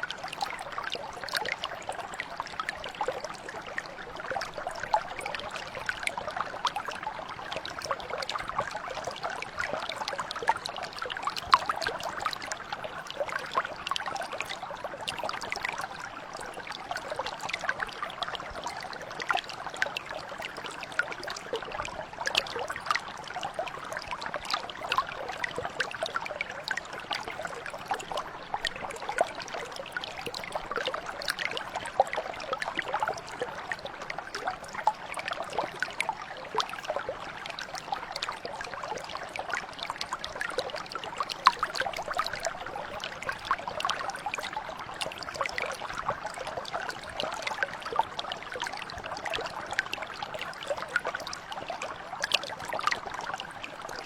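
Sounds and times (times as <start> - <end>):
mountain brook flowing: 0.0 - 54.0.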